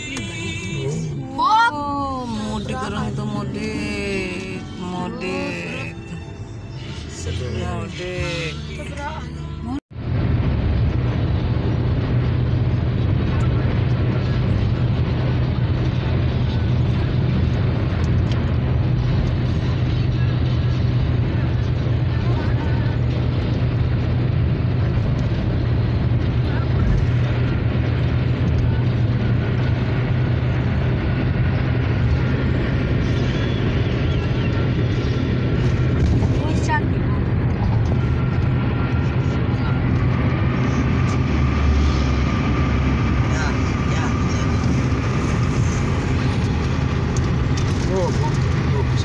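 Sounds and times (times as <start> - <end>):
car cabin road and engine noise: 0.0 - 49.0.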